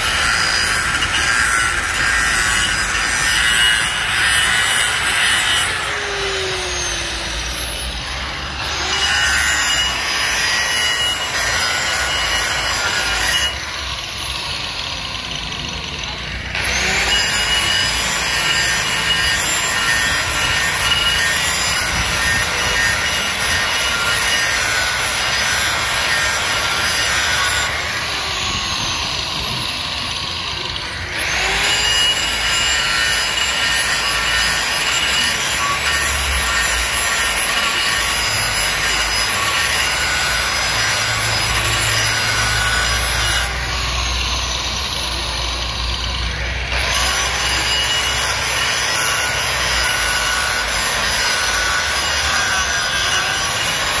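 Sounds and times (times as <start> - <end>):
angle grinder grinding metal: 0.0 - 54.0.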